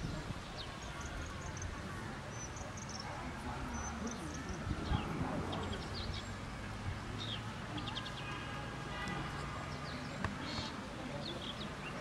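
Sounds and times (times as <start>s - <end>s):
small birds chirping: 0.0s - 8.5s, 9.3s - 12.0s
faint chatter of people: 0.0s - 12.0s.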